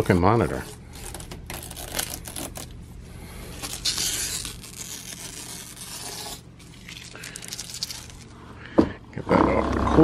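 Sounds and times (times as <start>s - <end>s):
plastic film peeling and crinkling: 0.0s - 8.4s.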